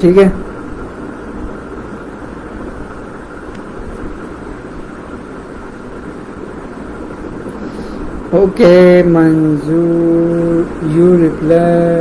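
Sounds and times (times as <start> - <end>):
low microphone background noise: 0.0 - 12.0.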